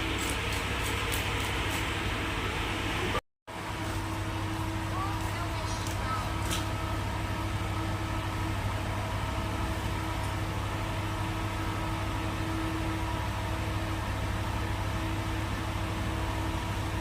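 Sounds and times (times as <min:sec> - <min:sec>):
machine hum with low drone: 0:00.0 - 0:17.0.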